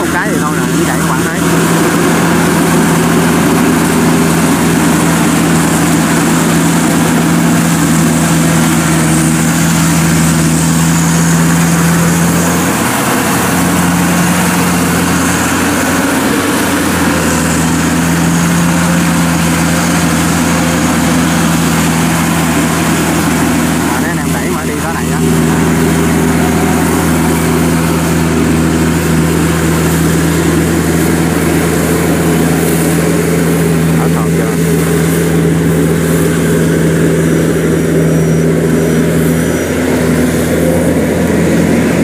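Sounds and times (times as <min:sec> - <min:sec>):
combine harvester engine hum: 0:00.0 - 0:42.0.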